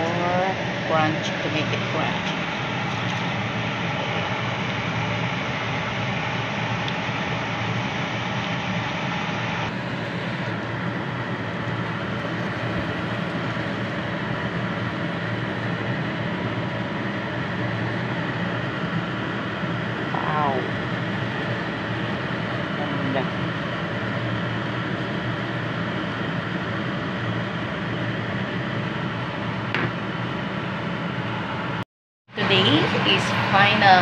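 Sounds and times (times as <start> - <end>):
cooker hum: 0.0 - 31.8, 32.4 - 34.0.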